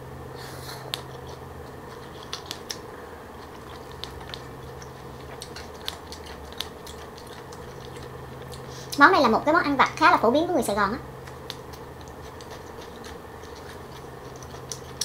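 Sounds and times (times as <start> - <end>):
faint steady hum: 0.0 - 15.0
crunchy chewing: 0.6 - 9.0, 11.2 - 15.0.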